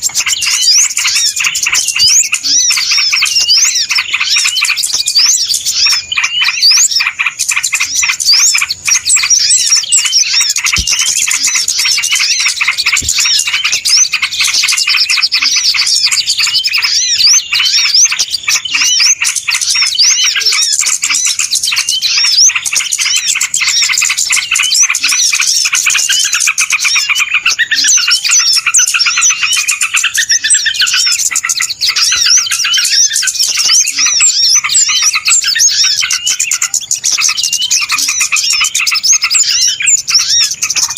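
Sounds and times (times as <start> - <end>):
chorus of small birds chirping: 0.0 - 40.9.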